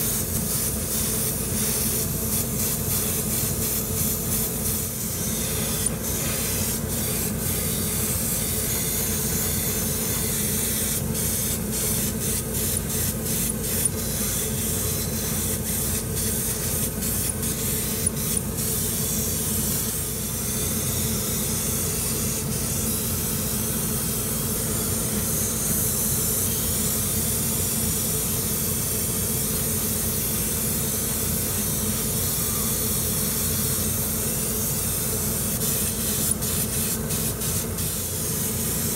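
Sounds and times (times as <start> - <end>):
airbrush hissing: 0.0 - 38.9.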